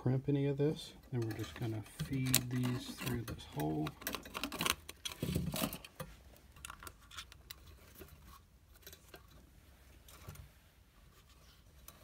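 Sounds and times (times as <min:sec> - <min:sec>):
faint scrapes and clicks: 0:01.0 - 0:12.0
handling rustle: 0:01.0 - 0:12.0.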